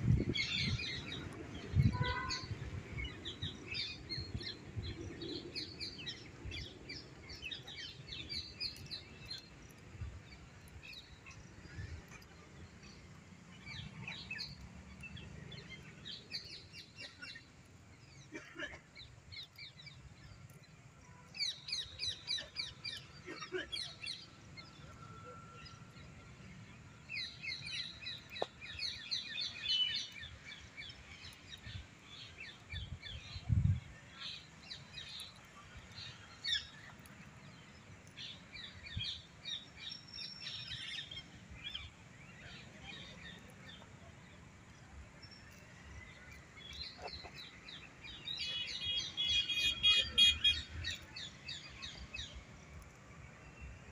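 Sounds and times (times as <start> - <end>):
small birds chirping: 0.1 - 53.9.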